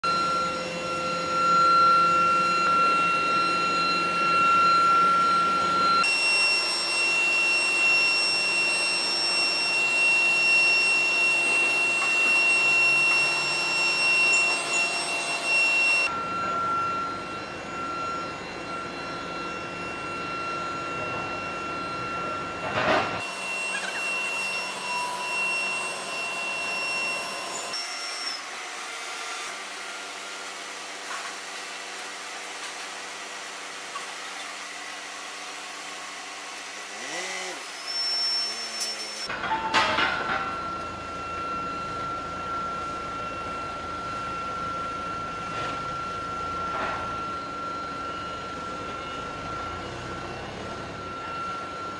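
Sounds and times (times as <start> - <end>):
high-pitched electrical whines: 0.0 - 28.6, 29.2 - 51.9
factory machinery running: 0.0 - 51.9.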